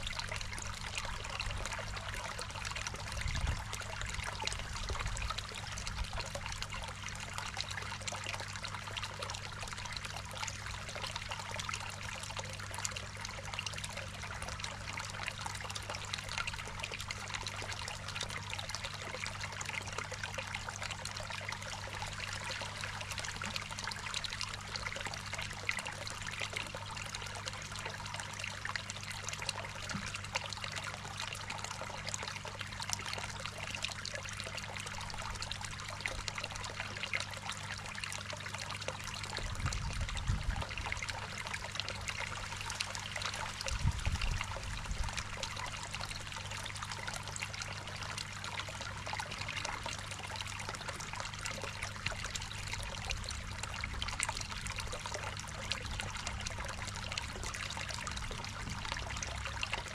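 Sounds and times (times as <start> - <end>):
water trickling into a pond: 0.0 - 59.9.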